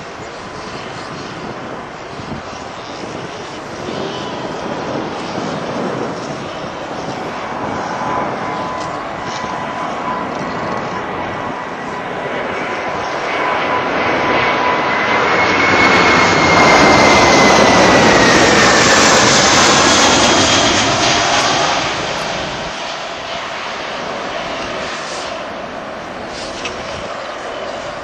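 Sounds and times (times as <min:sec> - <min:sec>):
jet engines taking off: 0:00.0 - 0:28.0.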